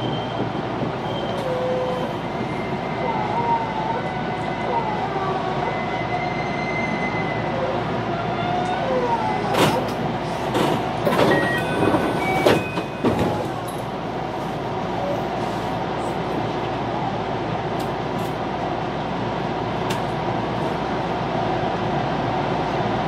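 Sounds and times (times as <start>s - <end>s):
train rumble from inside carriage: 0.0s - 23.0s.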